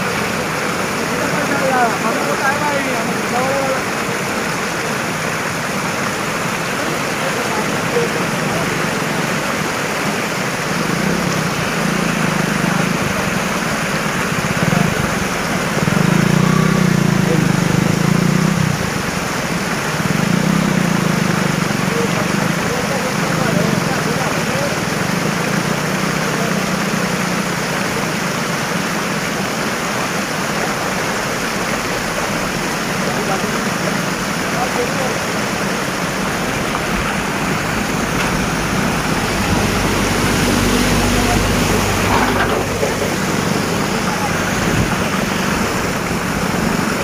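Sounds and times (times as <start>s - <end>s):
flowing water rushing: 0.0s - 47.0s
vehicle engines running: 0.0s - 47.0s.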